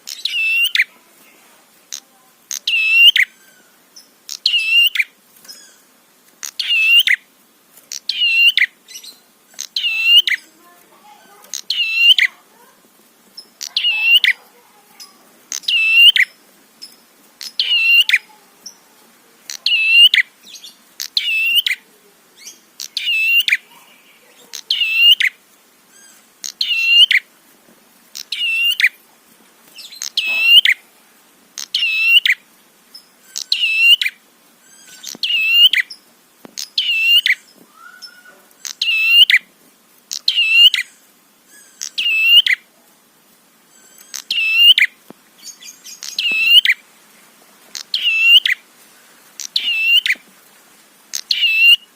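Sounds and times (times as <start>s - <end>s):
bird chirping: 0.0s - 1.3s, 1.9s - 7.3s, 7.9s - 27.3s, 28.1s - 29.0s, 29.7s - 30.9s, 31.6s - 39.5s, 40.1s - 42.7s, 43.6s - 46.8s, 47.8s - 48.6s, 49.3s - 50.2s, 51.1s - 51.9s.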